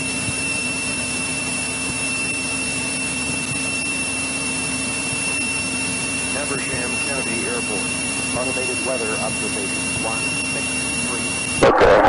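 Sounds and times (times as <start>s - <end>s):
airplane engine and propeller drone: 0.0s - 12.0s
thin high whine: 0.0s - 12.0s.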